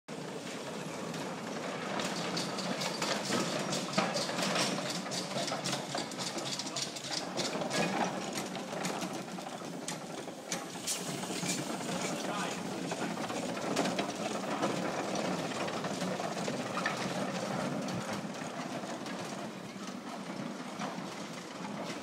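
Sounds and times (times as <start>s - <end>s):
steam engine exhaust chuffing: 0.1s - 22.0s.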